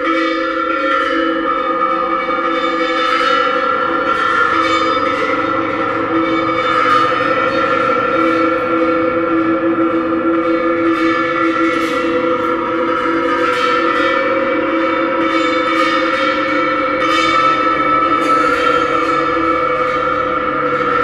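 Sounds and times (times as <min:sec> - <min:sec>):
ringing gong and electronic drone: 0:00.0 - 0:21.0.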